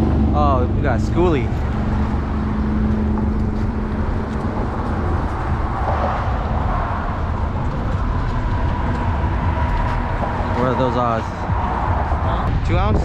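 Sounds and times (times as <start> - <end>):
cars driving past: 0.0 - 12.6.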